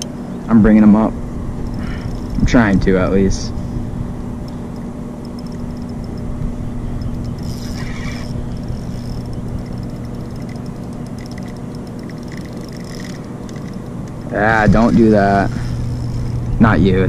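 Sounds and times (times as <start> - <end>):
boat motor humming: 0.0 - 17.0
faint ticking: 1.6 - 3.7, 4.4 - 17.0.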